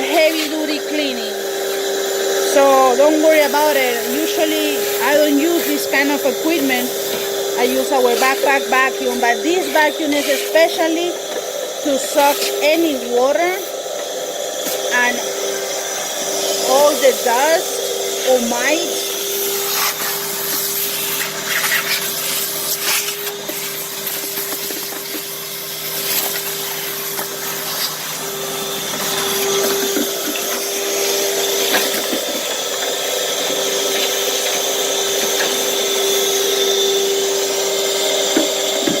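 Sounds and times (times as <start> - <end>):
wet dry vacuum running: 0.0 - 39.0.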